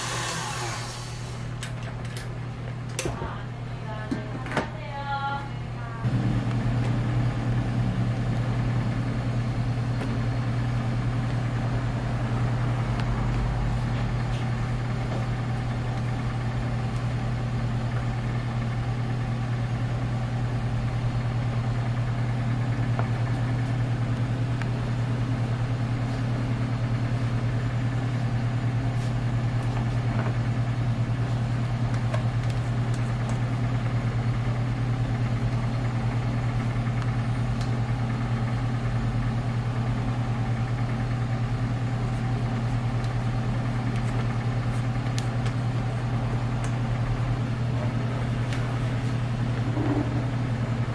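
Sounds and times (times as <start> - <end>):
low mechanical motor hum: 0.0 - 50.9.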